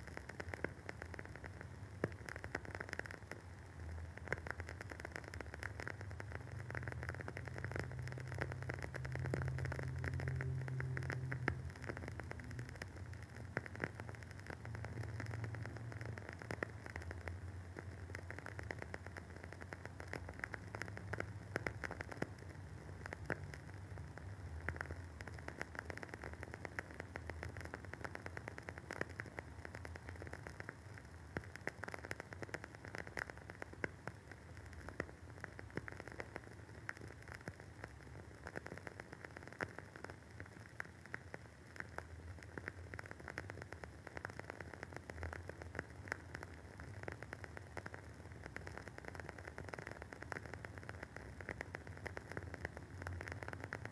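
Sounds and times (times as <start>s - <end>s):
wooden candle wick crackling: 0.0s - 53.9s.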